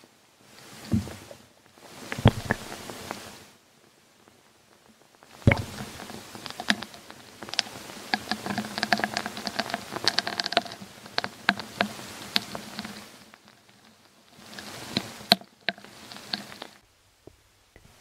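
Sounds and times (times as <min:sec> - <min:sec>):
dense patter of ticks: 0:00.6 - 0:17.9.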